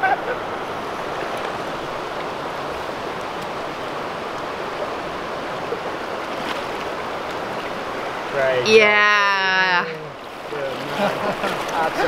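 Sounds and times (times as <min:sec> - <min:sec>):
river running over stones: 0:00.0 - 0:12.0
small water splashes: 0:00.7 - 0:12.0.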